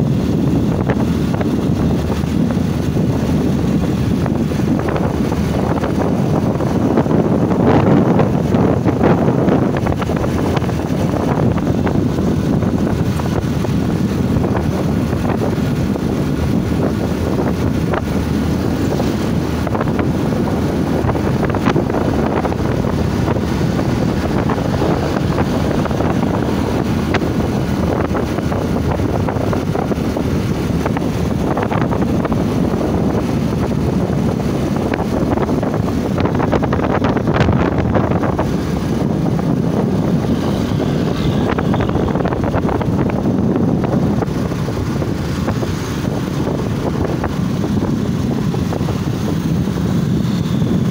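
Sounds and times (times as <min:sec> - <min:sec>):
motorcycle engine: 0:00.0 - 0:50.9
road noise: 0:00.0 - 0:50.9
wind buffeting microphone: 0:00.0 - 0:50.9.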